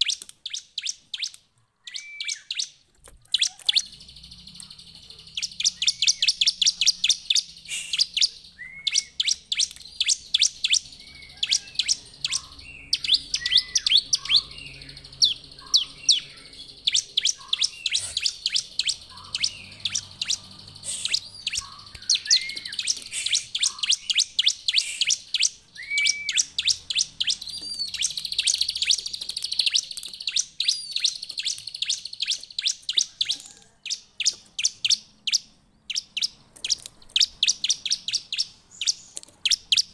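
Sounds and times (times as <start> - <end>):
bird singing high chips: 0.0 - 39.9.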